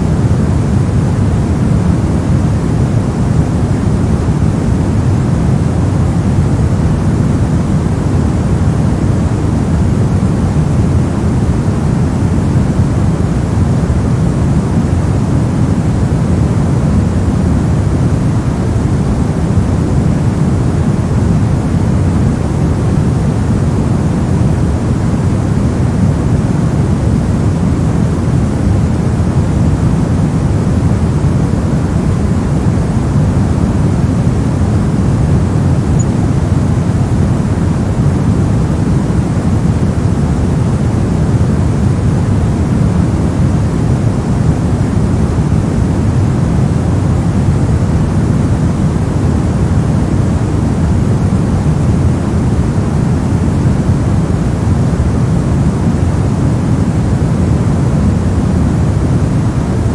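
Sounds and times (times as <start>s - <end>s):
deep white noise rush: 0.0s - 59.9s.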